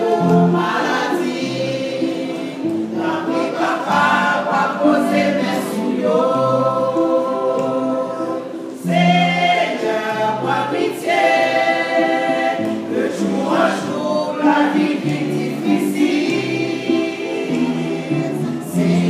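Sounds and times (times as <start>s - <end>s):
women's choir singing: 0.0s - 19.0s.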